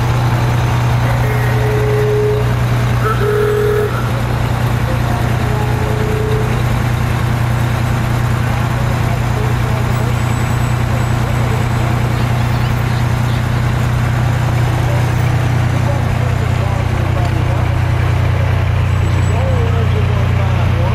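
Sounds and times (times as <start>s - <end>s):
truck diesel engine droning: 0.0s - 20.9s.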